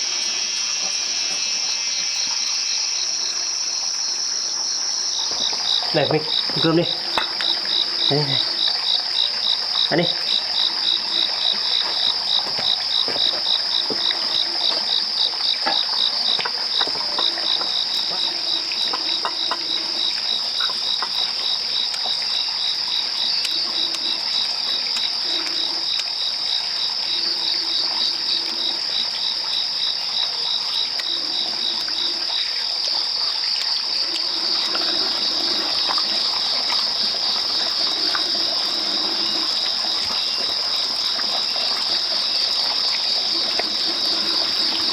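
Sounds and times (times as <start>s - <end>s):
frog calls: 0.0s - 44.9s
insects chorus: 0.0s - 44.9s.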